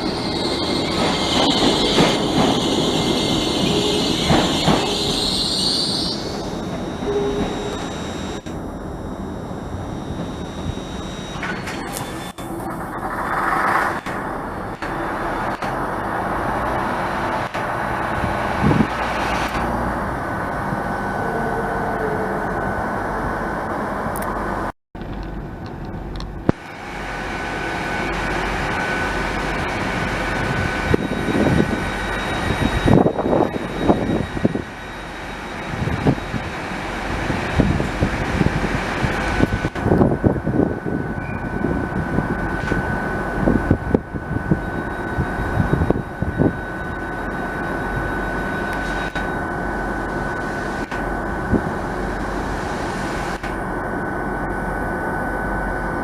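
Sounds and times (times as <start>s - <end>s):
train engines droning: 0.0s - 56.0s.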